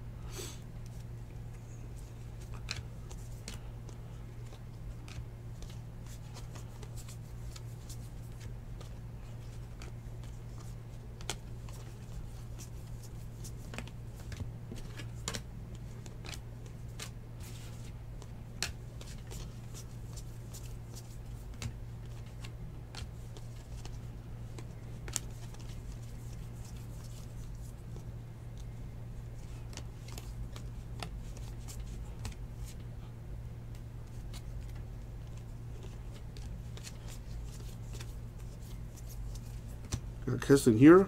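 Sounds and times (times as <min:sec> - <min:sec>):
trading cards flipped by hand: 0:00.8 - 0:28.8, 0:29.4 - 0:32.9, 0:33.7 - 0:40.2.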